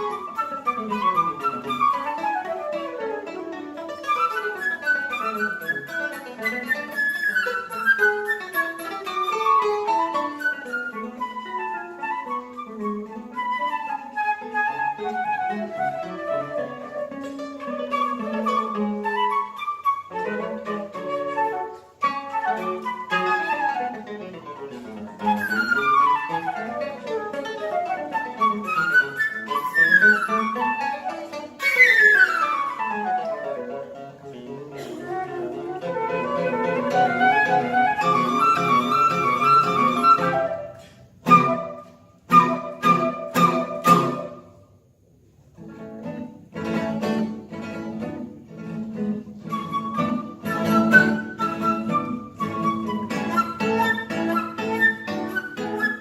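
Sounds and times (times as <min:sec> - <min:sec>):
flute: 0:00.0 - 0:44.6, 0:49.4 - 0:56.0
instrumental melody with accompaniment: 0:00.0 - 0:44.7, 0:45.6 - 0:56.0
guitar: 0:00.0 - 0:56.0.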